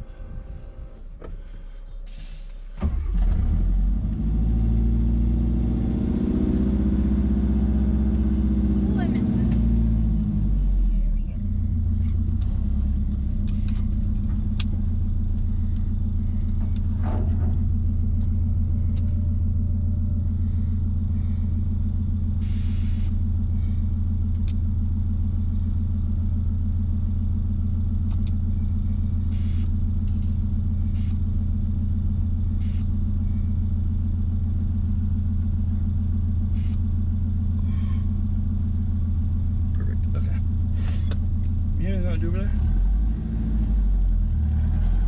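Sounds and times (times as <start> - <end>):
engine idling: 0.0 - 45.0.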